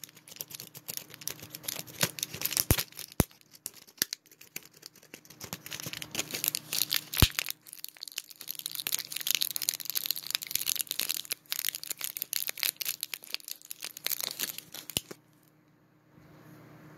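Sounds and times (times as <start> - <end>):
wrappers crinkling: 0.0 - 15.2.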